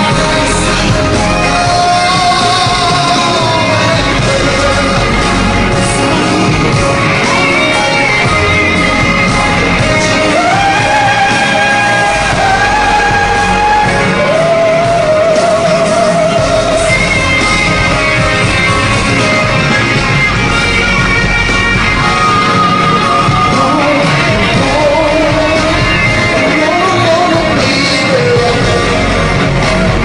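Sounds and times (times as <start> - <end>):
man singing into a microphone: 0.0 - 18.4, 23.2 - 30.0
loud band accompaniment: 0.0 - 30.0.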